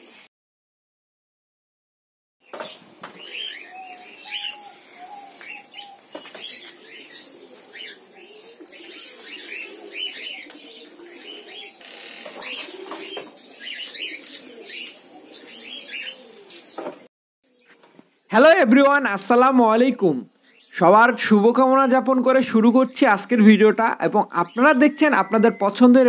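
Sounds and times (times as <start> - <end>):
lovebirds chattering: 2.4 - 26.0.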